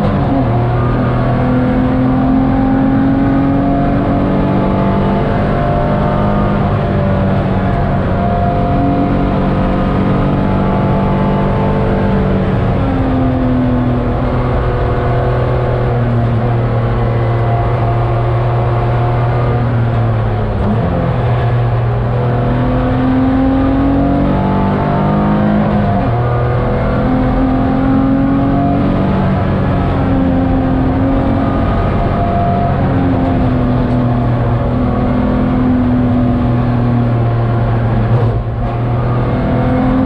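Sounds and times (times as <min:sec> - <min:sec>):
car engine under hard driving: 0:00.0 - 0:40.0
road and wind noise: 0:00.0 - 0:40.0.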